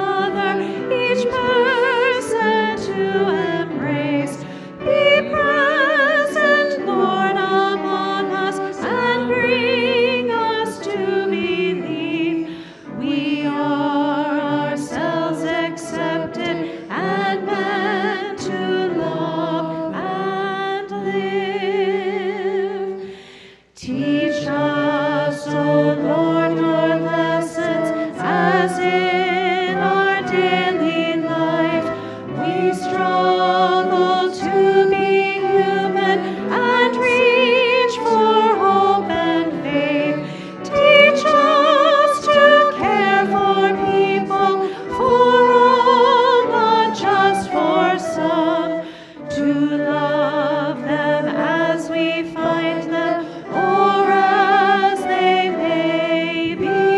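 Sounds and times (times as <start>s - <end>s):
voices singing a hymn: 0.0s - 56.9s.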